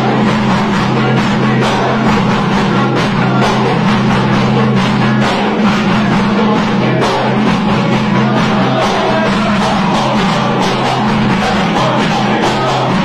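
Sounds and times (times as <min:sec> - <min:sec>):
music with drums and low note: 0:00.0 - 0:13.0.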